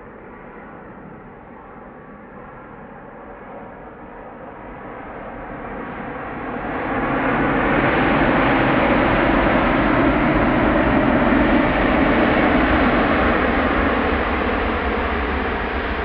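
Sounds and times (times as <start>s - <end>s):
jet airliner roar: 0.0s - 16.0s.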